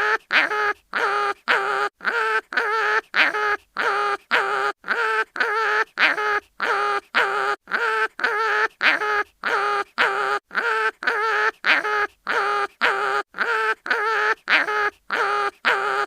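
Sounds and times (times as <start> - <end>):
cartoon animal crying in pain: 0.0 - 16.0.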